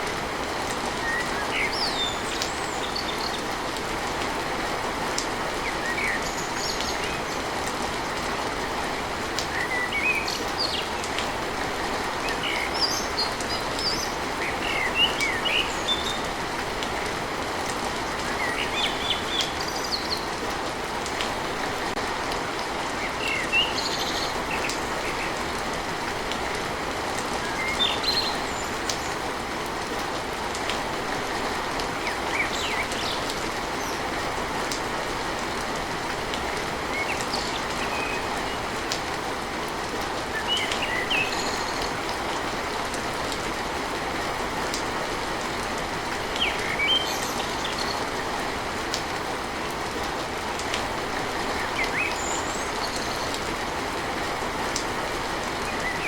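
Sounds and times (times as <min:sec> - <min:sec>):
rain drumming on a tin roof: 0:00.0 - 0:56.0.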